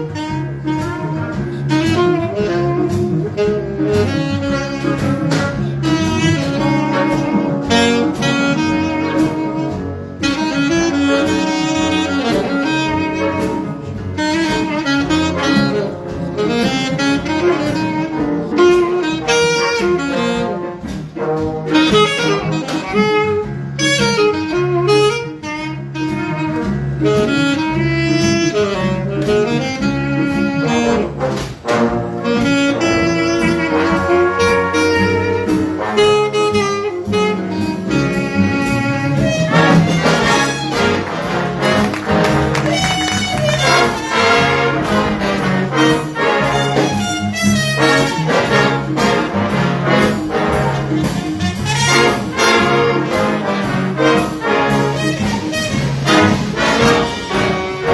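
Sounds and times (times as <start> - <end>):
jazz big band playing swing: 0.0 - 57.9.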